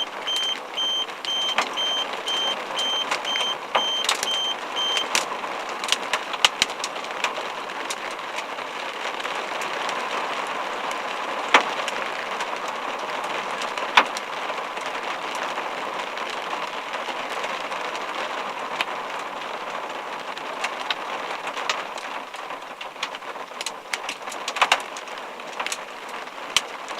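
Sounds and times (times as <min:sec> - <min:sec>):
hail and rain on a vehicle: 0:00.0 - 0:26.9.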